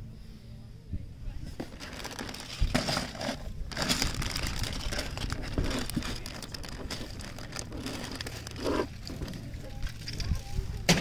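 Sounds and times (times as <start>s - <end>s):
crinkly rustling: 1.6s - 11.0s.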